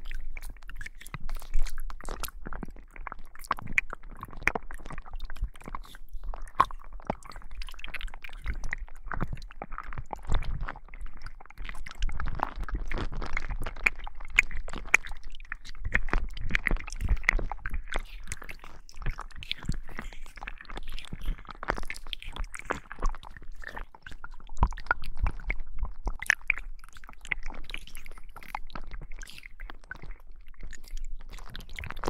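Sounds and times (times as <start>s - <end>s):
slime squishing with wet crackles: 0.0s - 32.0s.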